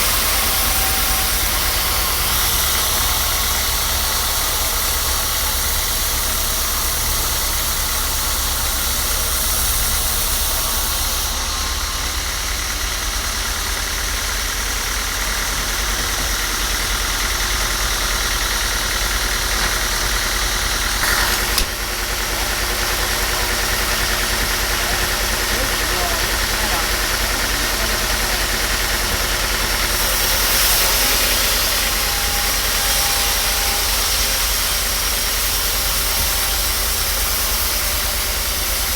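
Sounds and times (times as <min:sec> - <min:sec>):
machine motor droning: 0:00.0 - 0:38.9.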